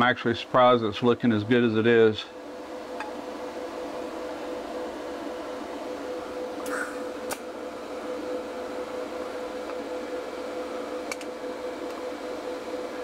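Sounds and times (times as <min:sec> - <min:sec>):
welding machine hum: 0:00.0 - 0:13.0.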